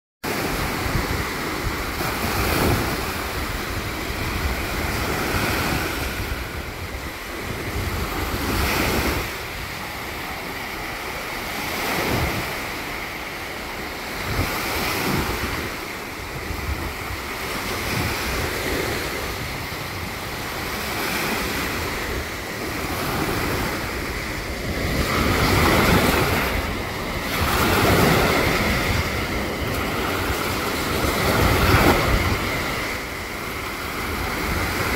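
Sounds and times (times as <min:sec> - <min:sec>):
waves washing up a sandy shore: 0:00.3 - 0:34.9
wind buffeting microphone: 0:00.3 - 0:34.9.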